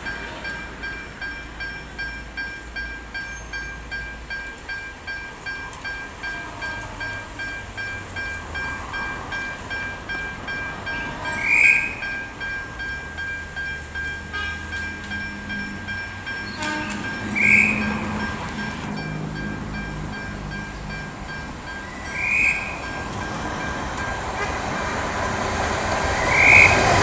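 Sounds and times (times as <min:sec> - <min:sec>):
diesel locomotive engine rumble: 0:00.0 - 0:27.0
level-crossing warning bell ringing: 0:00.0 - 0:27.0.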